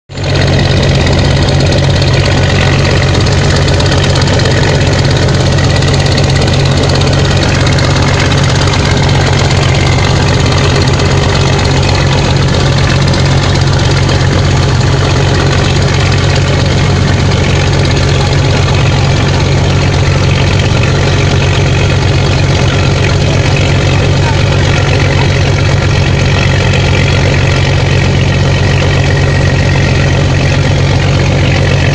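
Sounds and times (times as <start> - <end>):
truck diesel engine labouring: 0.1 - 31.9.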